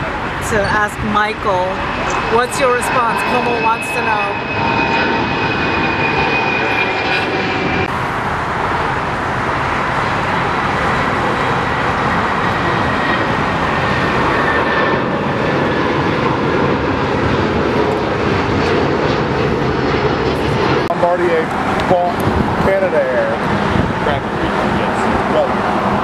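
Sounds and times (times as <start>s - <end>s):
faint high jet whine: 0.0s - 26.0s
jet engine roar: 0.0s - 26.0s.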